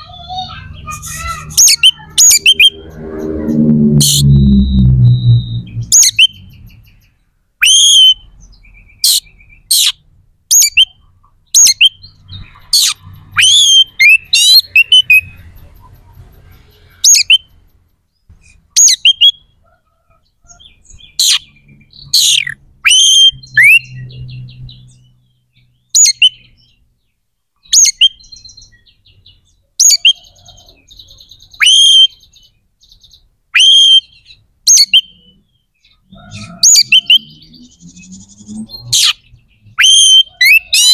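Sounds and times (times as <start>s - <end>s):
bird whistled song: 0.3s - 11.0s, 11.6s - 15.4s, 17.0s - 17.5s, 18.8s - 19.5s, 20.5s - 26.8s, 27.6s - 40.9s.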